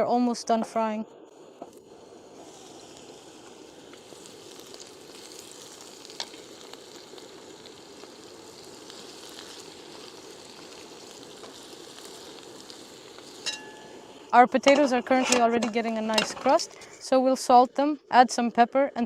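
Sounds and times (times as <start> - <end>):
potatoes sizzling in oil: 0.0 - 19.0.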